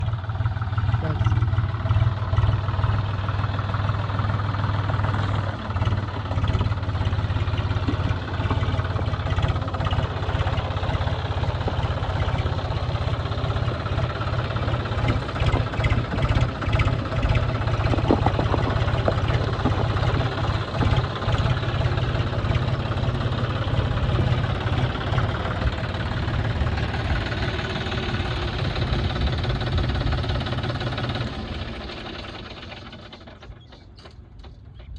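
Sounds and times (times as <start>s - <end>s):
tractor diesel engine chugging: 0.0s - 34.9s.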